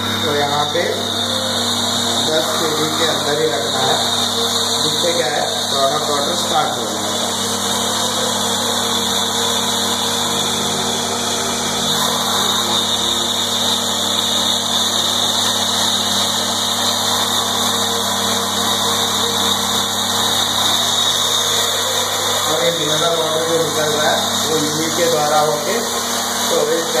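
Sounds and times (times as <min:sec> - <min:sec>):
pump humming with hiss: 0:00.0 - 0:27.0.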